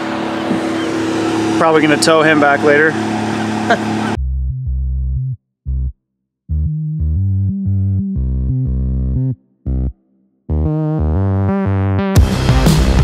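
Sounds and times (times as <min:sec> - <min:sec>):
electronic music with synth bass: 0:00.4 - 0:13.0.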